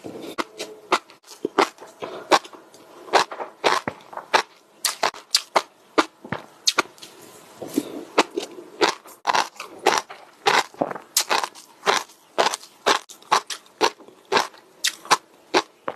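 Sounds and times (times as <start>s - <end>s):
crunchy food being chewed: 0.0s - 15.9s.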